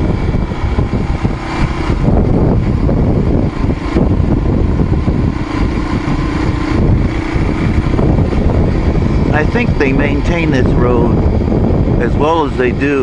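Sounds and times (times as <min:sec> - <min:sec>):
road noise rumble: 0:00.0 - 0:13.0
vehicle engine running: 0:00.0 - 0:13.0.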